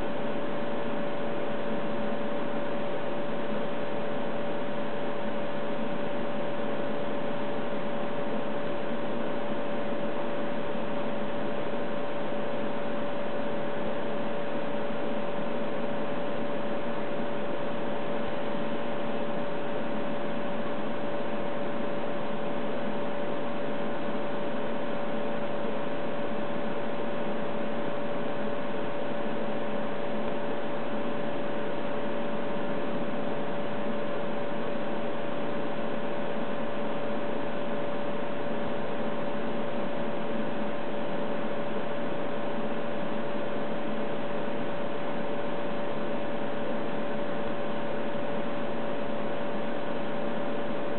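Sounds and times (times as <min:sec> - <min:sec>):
electronic equipment hum and hiss: 0:00.0 - 0:50.9.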